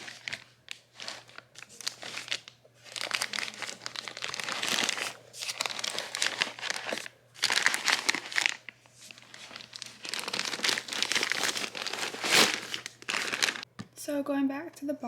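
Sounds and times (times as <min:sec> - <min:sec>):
packaging crinkling and rustling: 0:00.0 - 0:13.7.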